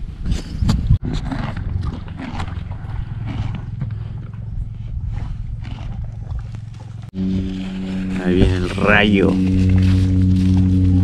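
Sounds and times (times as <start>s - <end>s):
dense low rumble: 0.0s - 11.0s
horses crunching fruit: 0.4s - 11.0s.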